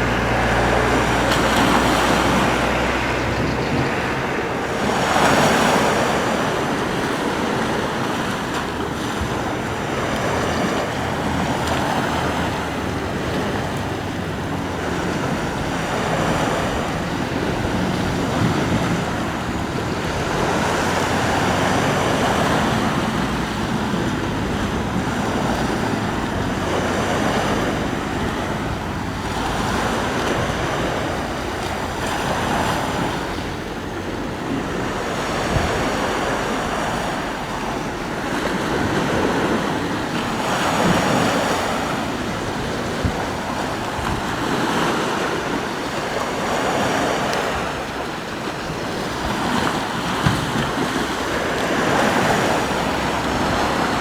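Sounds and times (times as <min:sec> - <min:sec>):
sea waves breaking on shore: 0:00.0 - 0:54.0
wind buffeting microphone: 0:00.0 - 0:54.0.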